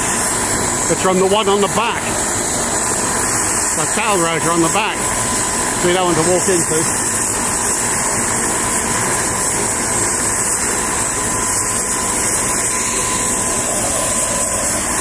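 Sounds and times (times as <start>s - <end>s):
helicopter turbine whine: 0.0s - 15.0s
rotor rushing noise: 0.0s - 15.0s.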